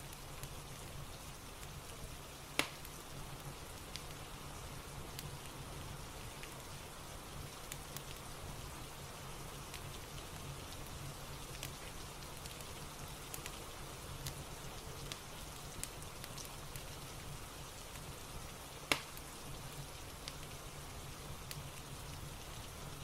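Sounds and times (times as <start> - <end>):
fireplace crackling: 0.0 - 23.0
steady rain hiss: 0.0 - 23.0.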